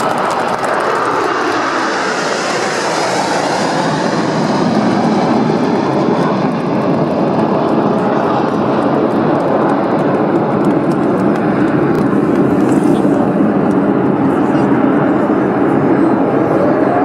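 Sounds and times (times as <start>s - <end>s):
jet planes flying past: 0.0s - 17.0s.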